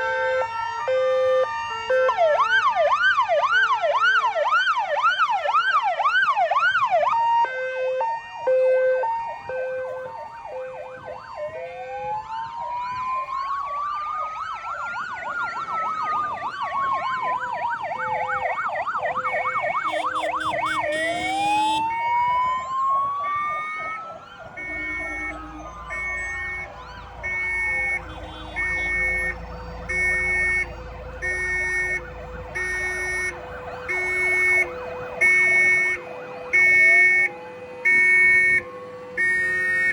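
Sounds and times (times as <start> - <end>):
fire engine sirens: 0.0 - 39.9.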